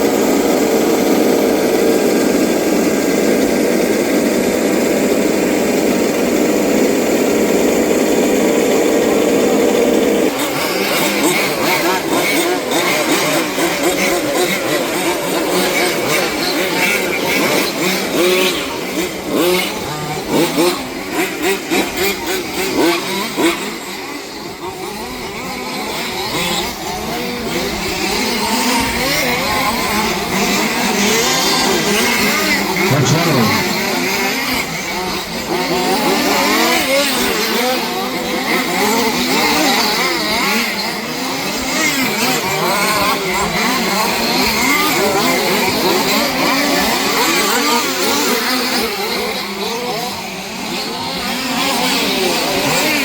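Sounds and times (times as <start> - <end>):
rc car engines revving: 0.0 - 53.0.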